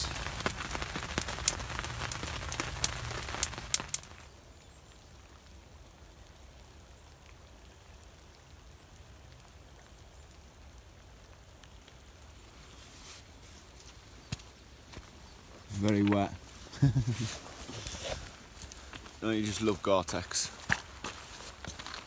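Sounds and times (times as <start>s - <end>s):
faint steady hiss: 0.0s - 22.0s
rain on a tarp: 0.0s - 22.0s.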